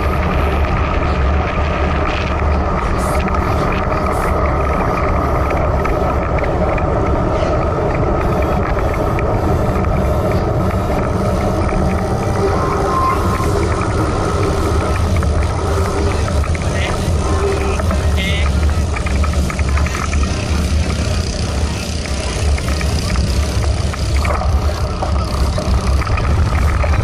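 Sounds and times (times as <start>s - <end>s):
tyre noise on wet road: 0.0s - 27.0s
wind buffeting microphone: 0.0s - 27.0s.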